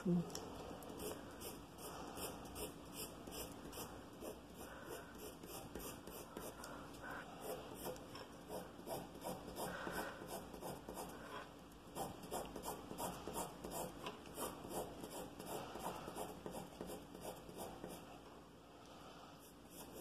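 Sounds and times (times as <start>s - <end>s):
pencil scratching on paper: 0.9s - 6.6s, 7.3s - 18.1s, 19.4s - 20.0s.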